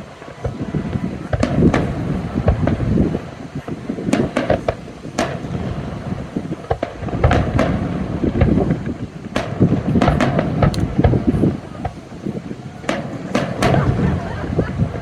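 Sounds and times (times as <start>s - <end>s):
fireworks booming and cracking: 0.0s - 15.0s
wind noise on microphone: 0.0s - 15.0s.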